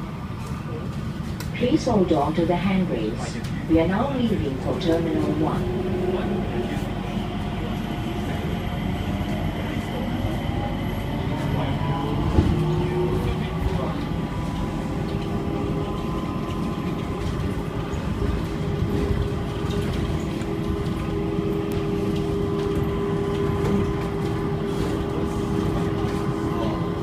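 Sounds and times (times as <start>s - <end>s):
train running gear rumble: 0.0s - 27.0s.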